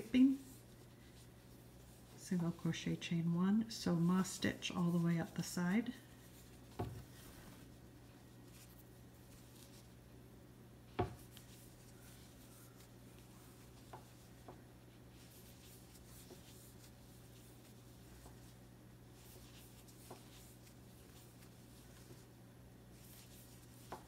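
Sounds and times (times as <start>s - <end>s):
crochet hook rustling yarn: 0.0s - 10.1s, 10.9s - 24.0s
low steady hum: 0.0s - 24.0s.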